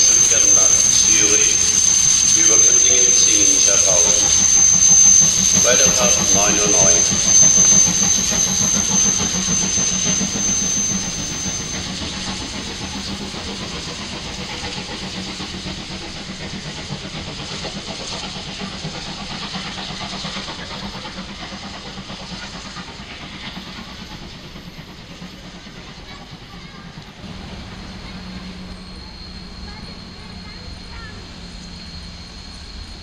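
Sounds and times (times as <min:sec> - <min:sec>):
steam locomotive hissing steam: 0:00.0 - 0:33.0
thin high steam hiss: 0:00.0 - 0:33.0.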